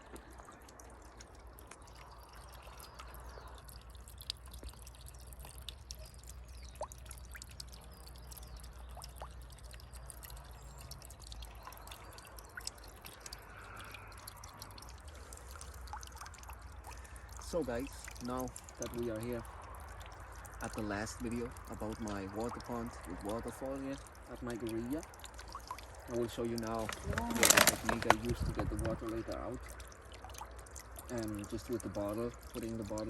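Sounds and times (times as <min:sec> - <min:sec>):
small waterfall trickling into pond: 0:00.0 - 0:33.0
water drips: 0:00.0 - 0:33.0.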